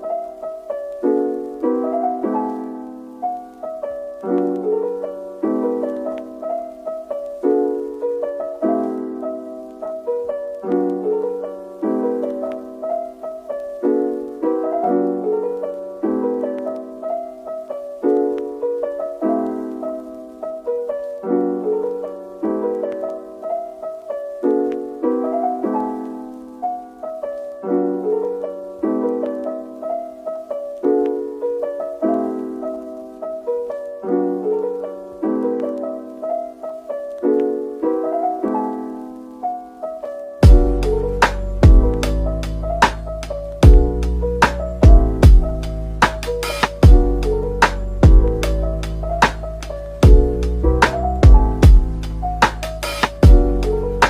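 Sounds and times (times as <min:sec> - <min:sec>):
gentle piano melody: 0:00.0 - 0:54.0.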